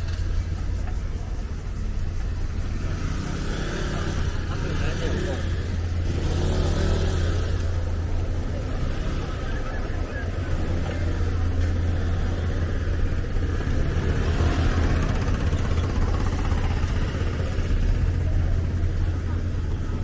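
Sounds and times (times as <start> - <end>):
car and scooter traffic rumble: 0.0 - 20.0
crowd noise: 0.0 - 20.0.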